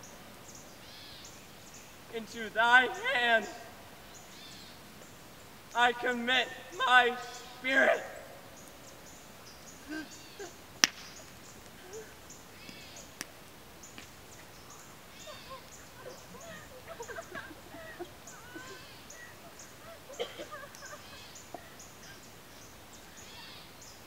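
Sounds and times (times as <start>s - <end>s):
bird calls: 0.0s - 24.0s.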